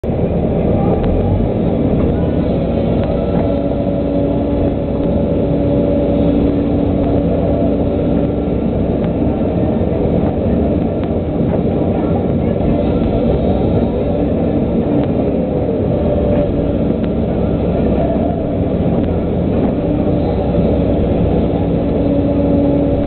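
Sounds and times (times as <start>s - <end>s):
excavator diesel engine: 0.0s - 23.0s
hydraulic whine: 0.0s - 23.0s.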